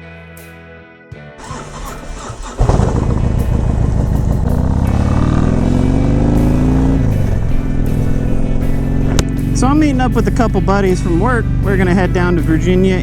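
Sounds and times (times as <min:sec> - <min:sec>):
motorcycle engine accelerating: 0:01.4 - 0:13.0.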